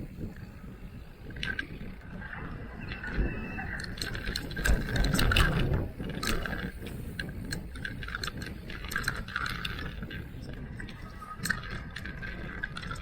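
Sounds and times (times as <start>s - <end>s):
bike rattling over rough ground: 0.0s - 13.0s.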